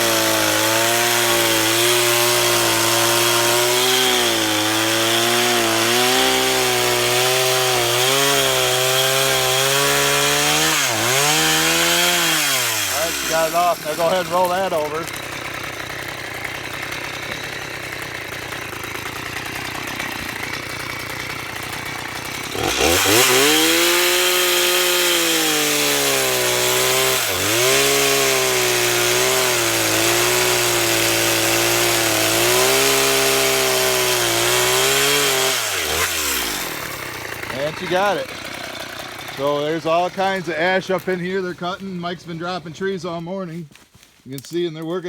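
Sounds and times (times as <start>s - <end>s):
chainsaw cutting log: 0.0s - 45.0s.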